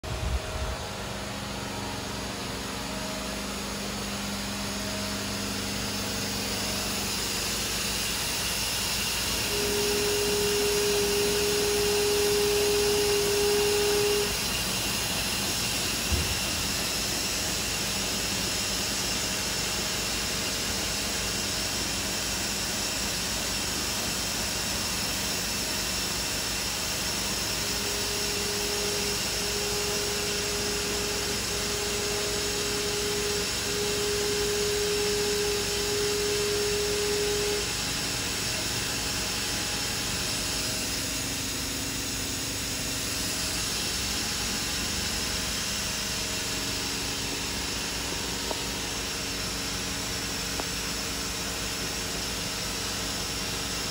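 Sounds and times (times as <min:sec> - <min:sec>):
machine steady whine: 0:00.0 - 0:53.9
machine steady whir: 0:00.0 - 0:53.9.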